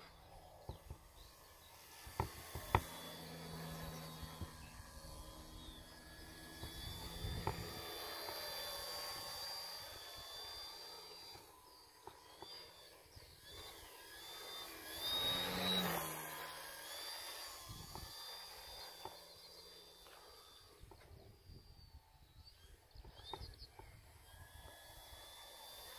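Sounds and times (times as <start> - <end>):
model aeroplane motor whine: 0.0 - 25.9.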